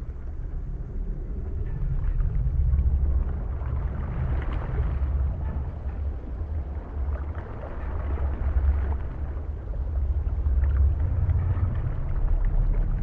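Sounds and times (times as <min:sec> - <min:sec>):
underwater exhaled bubbles rumbling: 0:00.0 - 0:13.0.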